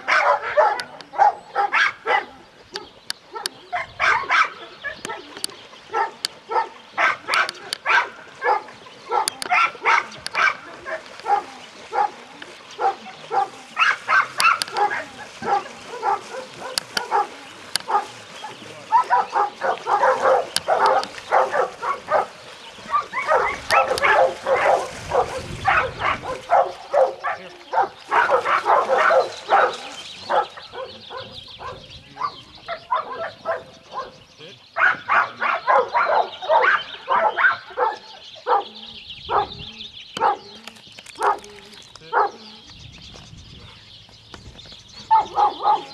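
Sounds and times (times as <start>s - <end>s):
dogs barking: 0.0s - 40.6s, 41.2s - 42.7s, 45.0s - 45.9s.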